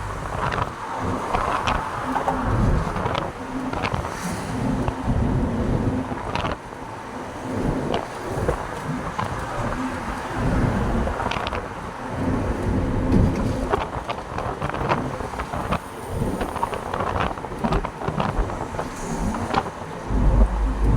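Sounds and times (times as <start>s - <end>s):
truck engine and road rumble: 0.0s - 20.9s.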